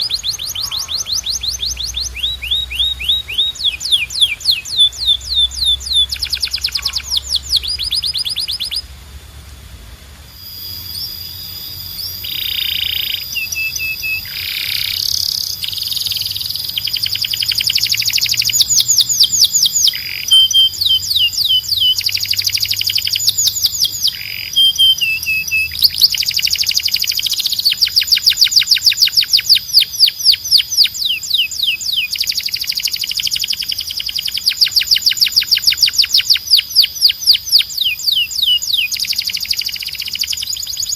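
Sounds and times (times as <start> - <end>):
canary singing: 0.0 - 9.0, 10.3 - 40.9.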